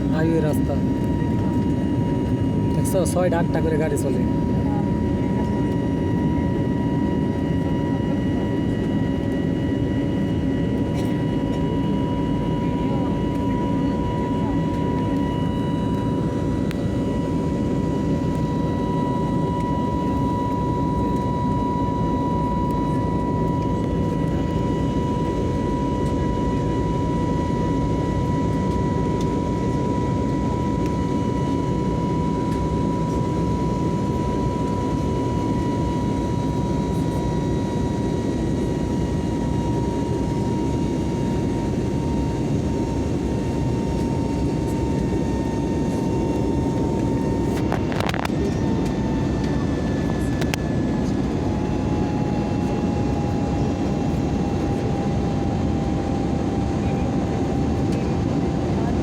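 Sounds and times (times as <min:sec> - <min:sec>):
high engine whine: 0:00.0 - 0:59.0
jet engine rumble: 0:00.0 - 0:59.0.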